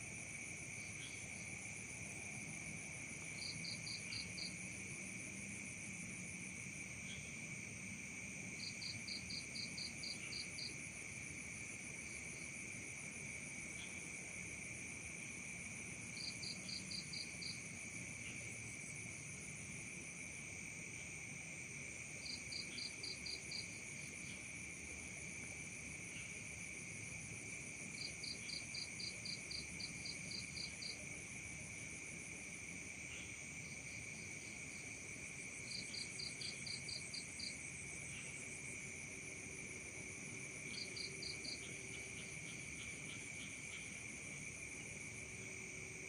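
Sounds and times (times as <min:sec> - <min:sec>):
crickets and insects buzzing: 0:00.0 - 0:46.0.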